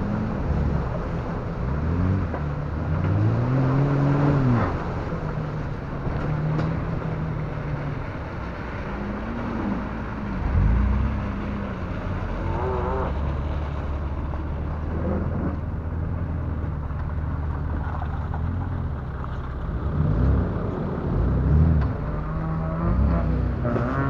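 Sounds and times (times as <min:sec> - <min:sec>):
off-road vehicle engine droning: 0:00.0 - 0:24.0.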